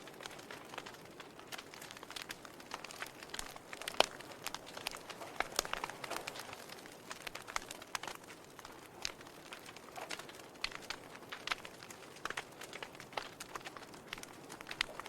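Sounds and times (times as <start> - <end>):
soft hiss of fire: 0.0 - 15.0
wood fire crackling and popping: 0.0 - 15.0.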